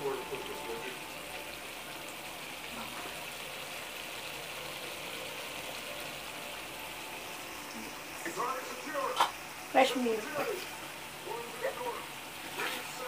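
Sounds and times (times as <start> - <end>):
food simmering in a pan: 0.0 - 13.0.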